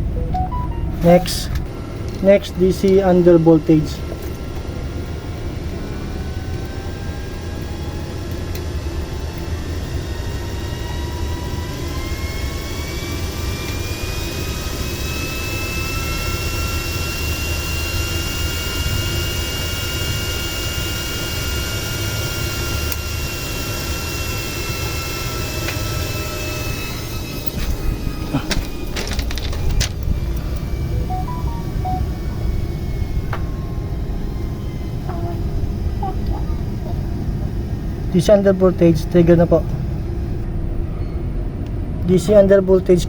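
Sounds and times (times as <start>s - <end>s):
mechanical whine rising in pitch: 0.0s - 41.6s
constant low hum: 0.0s - 43.0s.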